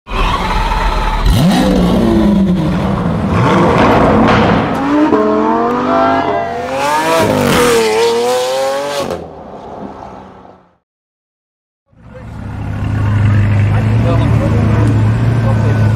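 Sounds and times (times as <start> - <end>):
car engines revving hard: 0.1 - 9.4, 12.2 - 15.9.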